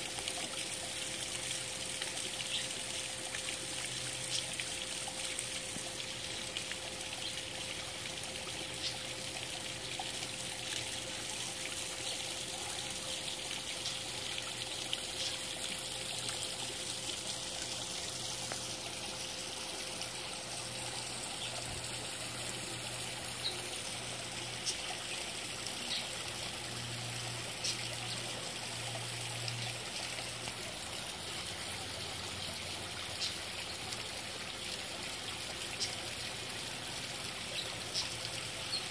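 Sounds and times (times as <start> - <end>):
waterfall splashing into a pond: 0.0 - 38.9.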